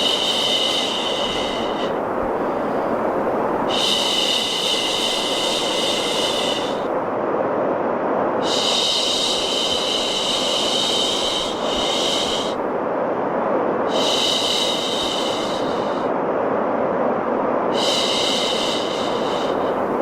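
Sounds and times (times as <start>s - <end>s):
steady white noise: 0.0s - 20.0s.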